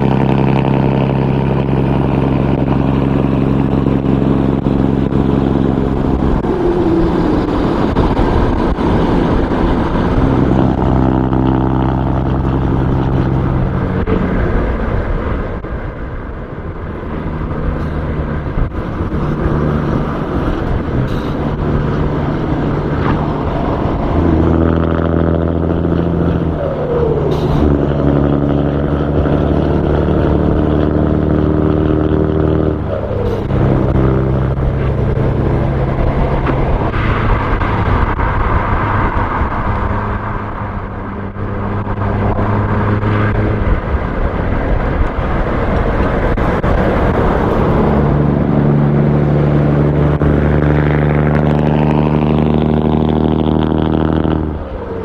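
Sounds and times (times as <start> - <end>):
road and wind noise: 0.0 - 55.0
truck diesel engine drone: 0.0 - 55.0.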